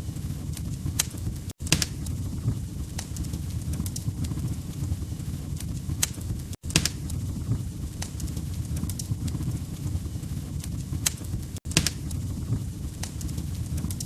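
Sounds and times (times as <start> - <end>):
fire popping and snapping: 0.0 - 14.0
low rumble of flames: 0.0 - 14.0.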